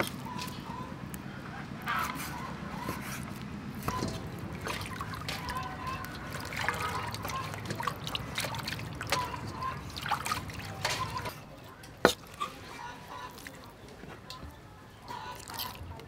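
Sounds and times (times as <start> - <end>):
water sloshing in a steel bowl: 1.9 - 16.0.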